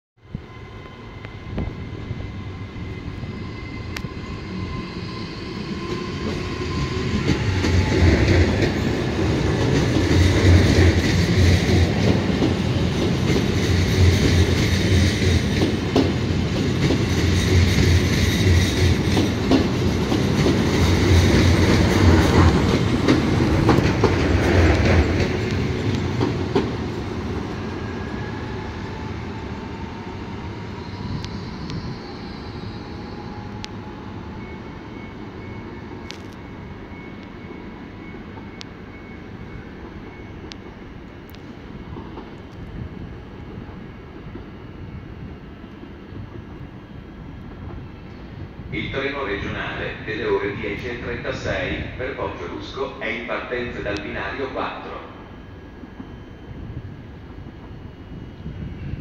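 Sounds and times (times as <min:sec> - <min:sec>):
electric train passing: 0:00.2 - 0:59.0.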